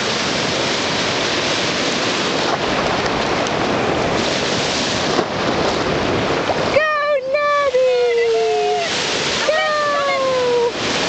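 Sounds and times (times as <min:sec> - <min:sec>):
ocean surf rushing: 0:00.0 - 0:11.0.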